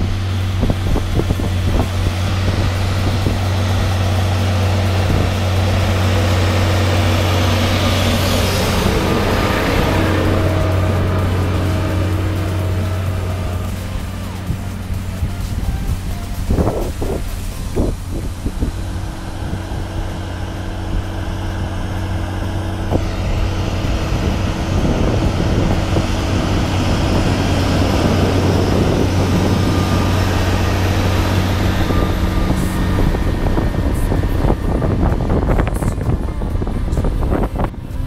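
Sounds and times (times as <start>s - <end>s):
rushing noise: 0.0s - 38.0s
tractor diesel engine running: 0.0s - 38.0s.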